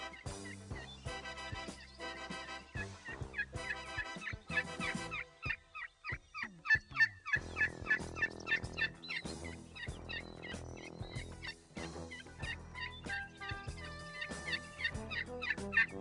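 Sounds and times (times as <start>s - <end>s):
background music: 0.0s - 16.0s
wild turkeys calling: 0.0s - 16.0s.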